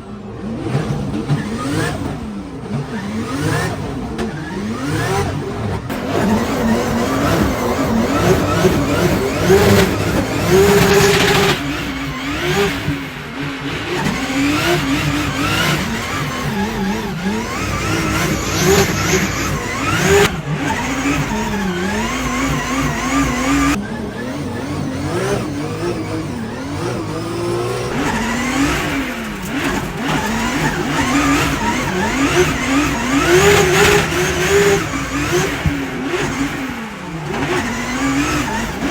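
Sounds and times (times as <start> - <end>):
car engines revving hard: 0.0 - 38.9.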